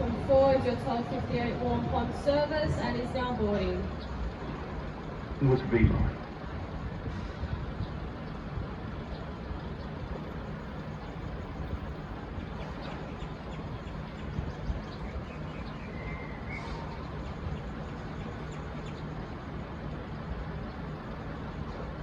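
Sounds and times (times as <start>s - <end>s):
train diesel engines idling: 0.0s - 22.0s.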